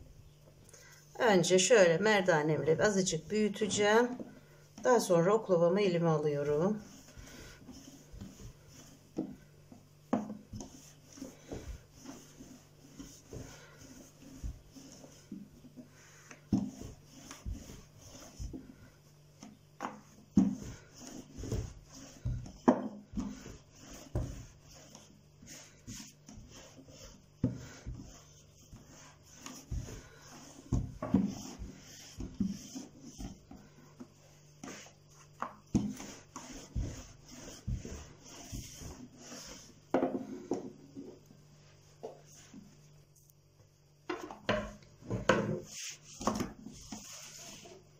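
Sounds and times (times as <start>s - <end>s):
rolling pin rolling over dough: 1.3s - 42.9s, 44.1s - 47.9s.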